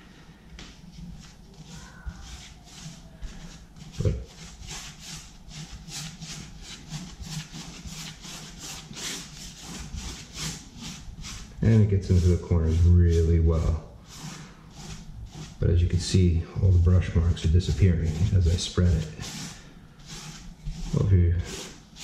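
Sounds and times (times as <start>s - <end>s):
paint brush rubbing on wall: 0.6s - 22.0s.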